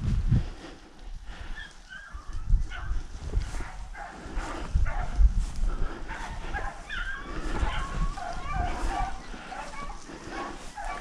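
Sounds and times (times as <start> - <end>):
hounds baying: 1.4 - 11.0.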